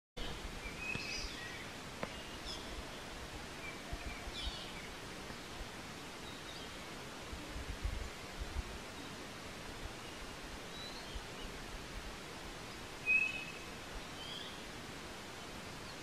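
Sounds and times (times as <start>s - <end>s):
forest birds calling: 0.2s - 7.4s, 8.0s - 11.8s, 12.6s - 16.0s.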